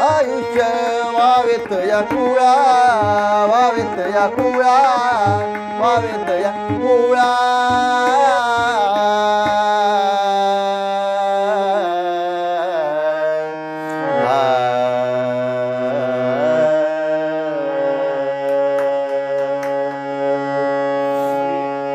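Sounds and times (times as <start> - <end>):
harmonium sustained notes: 0.0 - 21.9.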